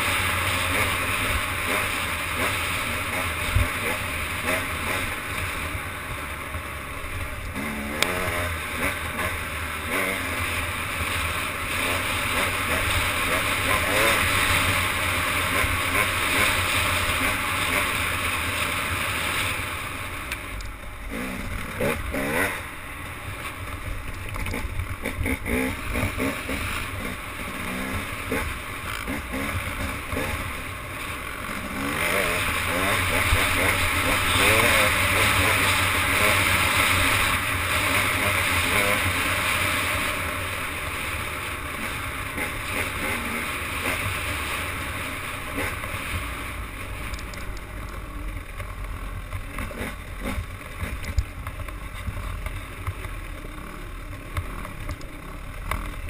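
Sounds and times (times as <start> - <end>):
motorboat running: 0.0 - 56.0.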